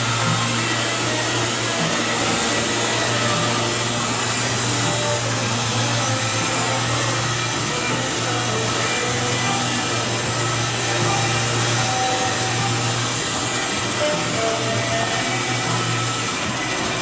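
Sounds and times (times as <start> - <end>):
mechanical rushing noise: 0.0 - 17.0.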